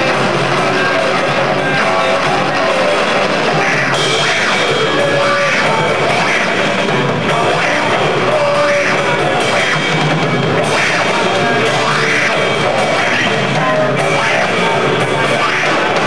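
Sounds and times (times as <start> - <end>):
drum kit beat: 0.0 - 16.0
electric guitars: 0.0 - 16.0
rock band playing live: 0.0 - 16.0.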